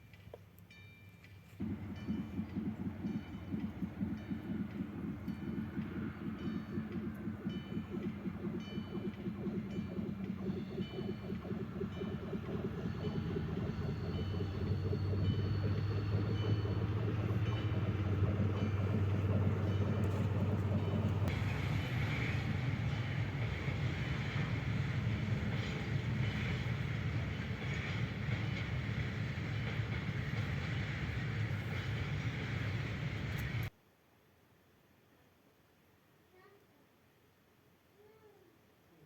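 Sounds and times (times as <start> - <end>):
train rumbling on rails: 1.6 - 33.7.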